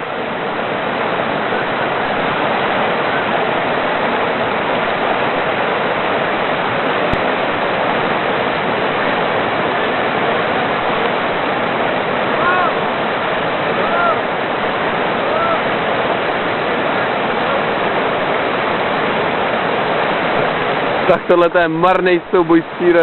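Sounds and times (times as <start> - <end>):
fast-flowing river water: 0.0 - 23.0.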